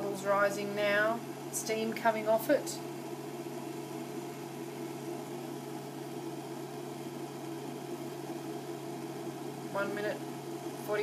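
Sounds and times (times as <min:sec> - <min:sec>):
induction hotplate hum: 0:00.0 - 0:11.0.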